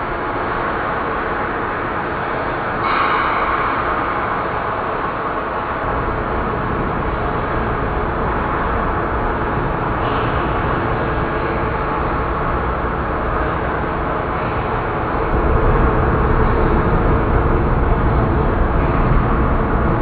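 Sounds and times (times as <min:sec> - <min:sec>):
dark horror drone: 0:00.0 - 0:20.0
deep rumble: 0:03.2 - 0:20.0.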